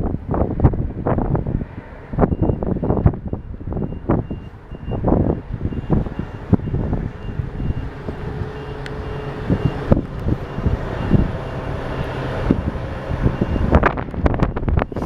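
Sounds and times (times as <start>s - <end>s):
engine hum: 0.0s - 15.0s
wind buffeting microphone: 0.0s - 15.0s
reversing beeper: 2.2s - 15.0s.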